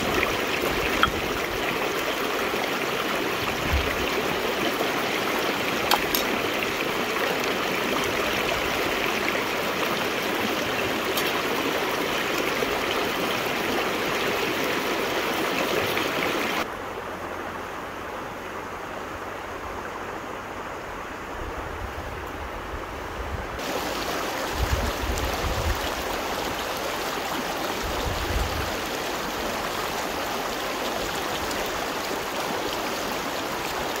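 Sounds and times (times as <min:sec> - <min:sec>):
river water rushing: 0:00.0 - 0:21.3, 0:23.6 - 0:34.0.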